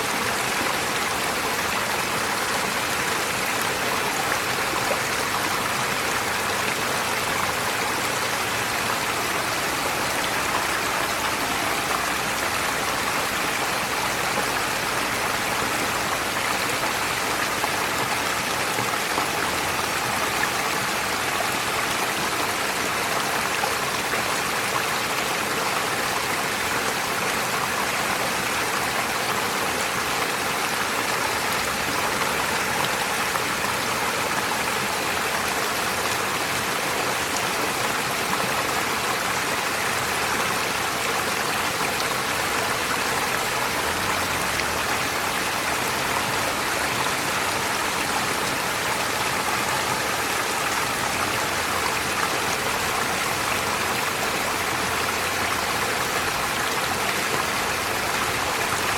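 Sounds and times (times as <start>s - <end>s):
stream running over stones: 0.0s - 58.9s.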